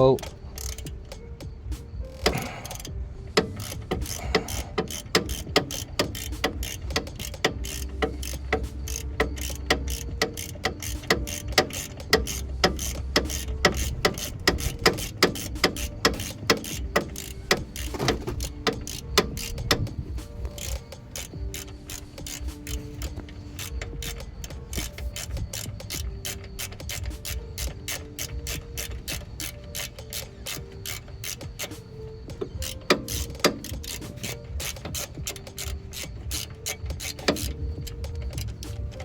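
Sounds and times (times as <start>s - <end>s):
ratchet wrench clicking: 0.0s - 39.0s.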